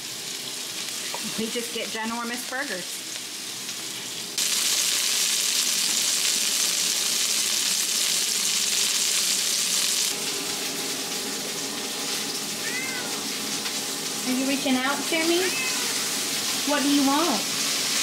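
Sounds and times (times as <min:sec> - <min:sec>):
burgers sizzling in a skillet: 0:00.0 - 0:18.0.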